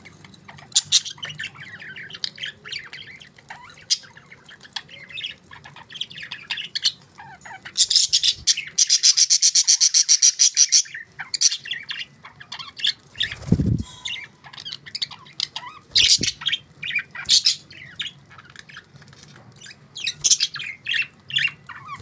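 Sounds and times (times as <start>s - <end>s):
budgerigars chirping: 0.5s - 18.9s, 19.6s - 22.0s.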